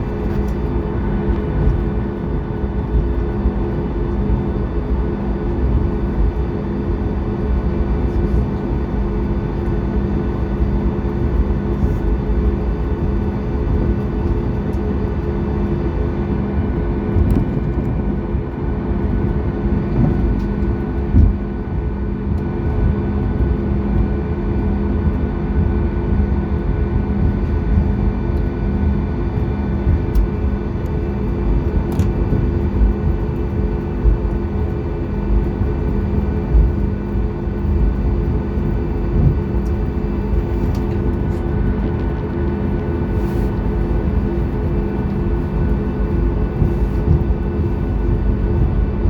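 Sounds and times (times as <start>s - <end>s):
aircraft engine hum: 0.0s - 49.0s.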